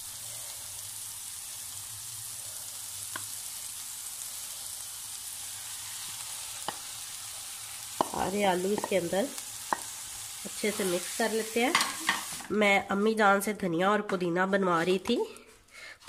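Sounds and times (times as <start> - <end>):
masala sizzling in a pan: 0.0 - 13.5.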